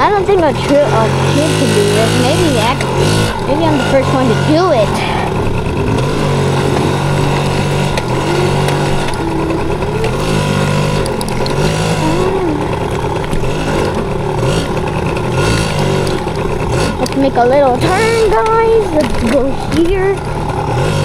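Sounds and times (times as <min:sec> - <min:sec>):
two-stroke motorbike engine revving: 0:00.0 - 0:21.0.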